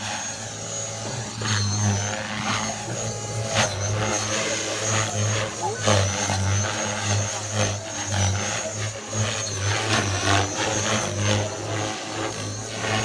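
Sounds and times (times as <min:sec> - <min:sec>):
electric motor whine: 0:00.0 - 0:13.0
helicopter rotor buzz: 0:00.0 - 0:13.0.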